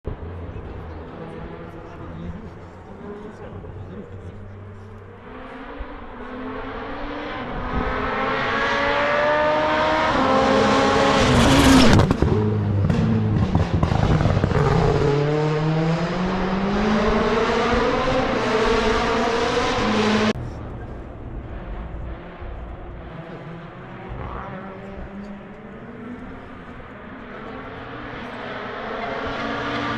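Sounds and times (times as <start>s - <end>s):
rally car engine at full throttle: 0.1s - 29.9s.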